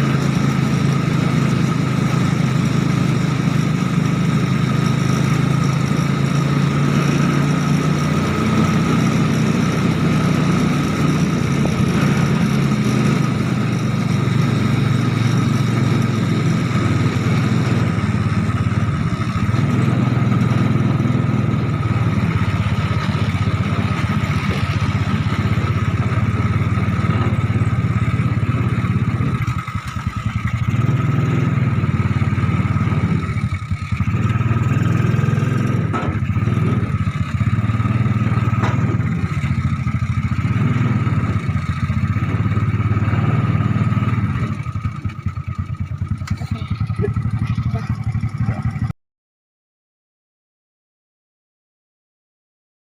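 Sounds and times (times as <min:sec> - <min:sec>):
small engine running: 0:00.0 - 0:48.9.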